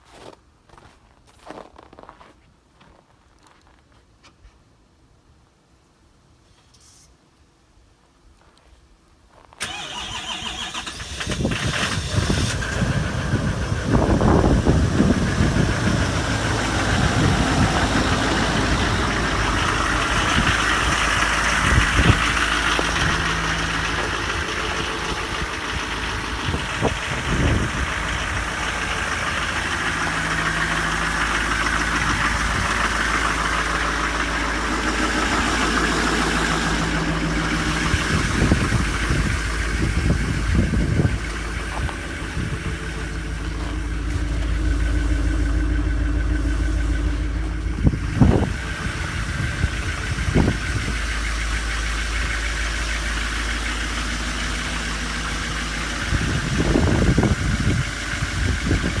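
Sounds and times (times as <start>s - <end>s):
diesel engine idling: 9.6s - 59.0s
engine knocks: 10.7s - 59.0s.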